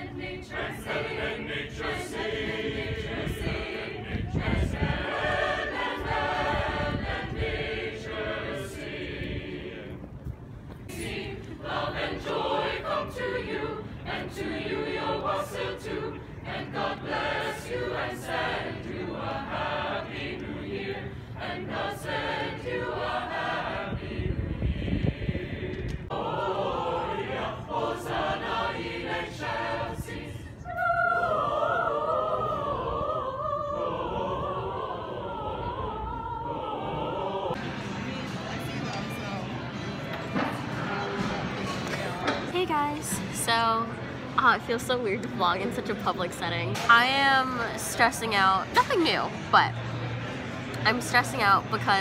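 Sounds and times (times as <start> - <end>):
mixed choir singing: 0.0 - 38.6, 39.8 - 52.0.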